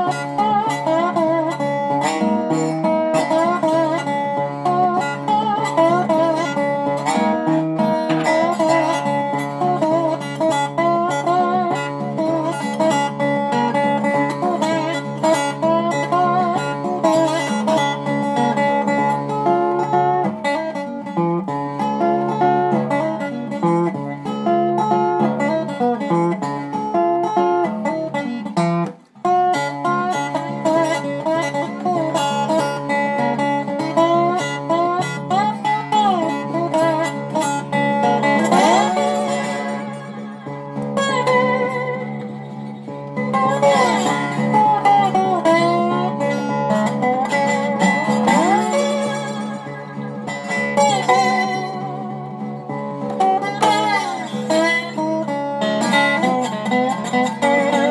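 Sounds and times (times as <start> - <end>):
slide guitar fingerpicking: 0.0 - 57.9.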